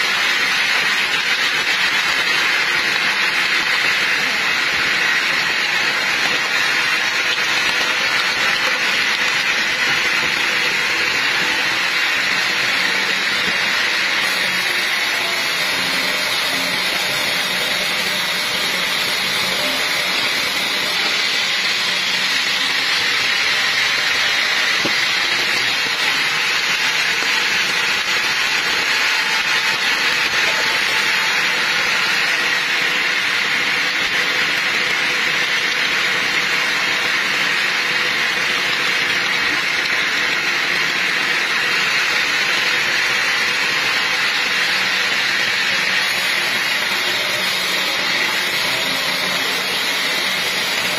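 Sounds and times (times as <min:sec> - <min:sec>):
sawmill machinery rushing hiss: 0:00.0 - 0:50.9.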